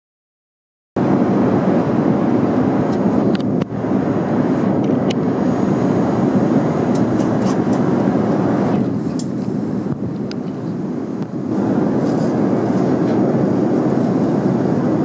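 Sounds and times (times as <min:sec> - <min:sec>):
airplane cabin rumble: 0:01.0 - 0:15.0.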